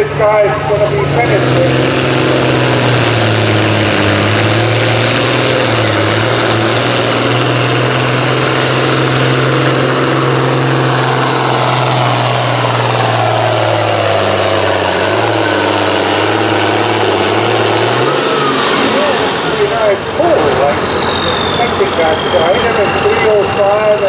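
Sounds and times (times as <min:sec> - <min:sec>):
tractor engine droning under load: 0:00.0 - 0:24.0.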